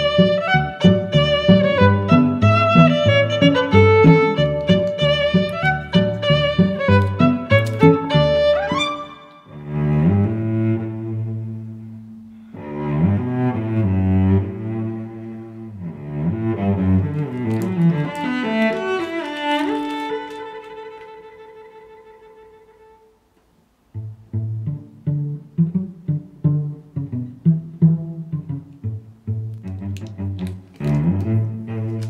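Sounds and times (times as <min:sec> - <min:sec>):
instrumental music melody: 0:00.0 - 0:32.0.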